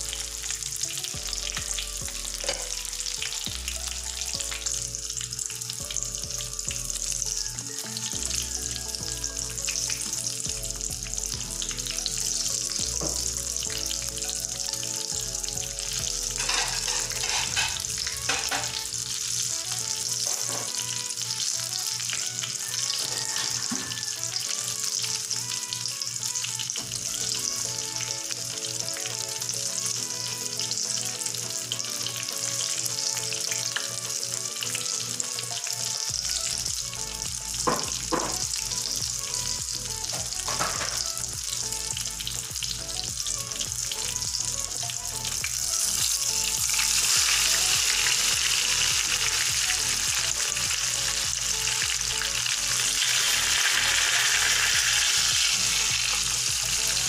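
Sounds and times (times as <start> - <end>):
omelettes sizzling in hot oil: 0.0 - 57.0.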